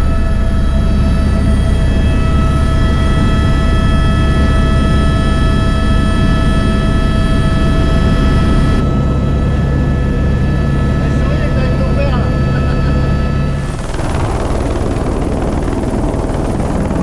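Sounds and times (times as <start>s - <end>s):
helicopter cabin drone: 0.0s - 17.0s
high engine whine: 0.0s - 17.0s.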